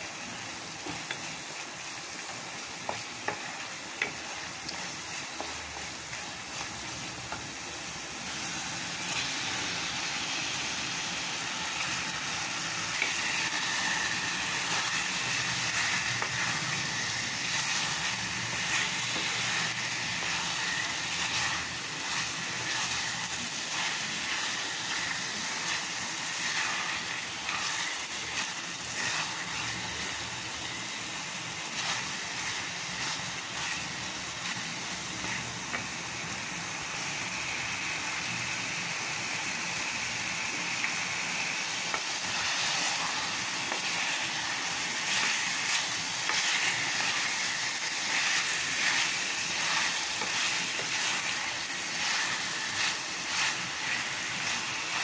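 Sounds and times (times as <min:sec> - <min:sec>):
masala sizzling in a pot: 0:00.0 - 0:55.0.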